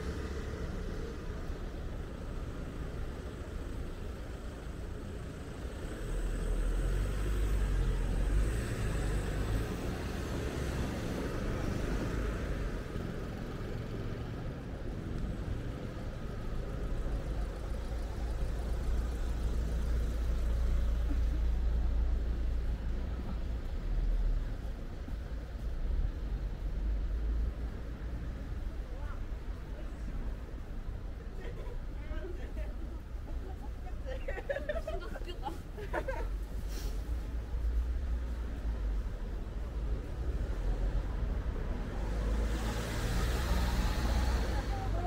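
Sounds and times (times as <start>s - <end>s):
cars running and passing: 0.0s - 45.0s.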